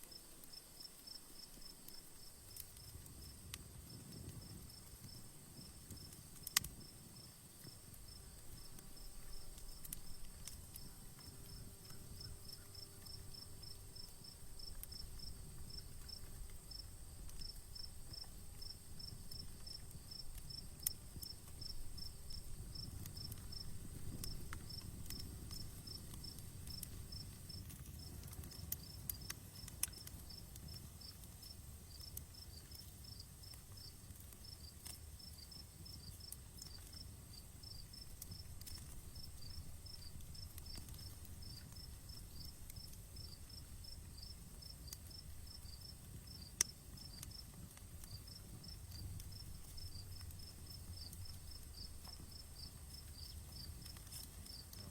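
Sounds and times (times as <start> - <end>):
campfire crackling and popping: 0.0 - 54.9
crickets chirping: 0.0 - 54.9
low rumble of burning fire: 0.0 - 54.9.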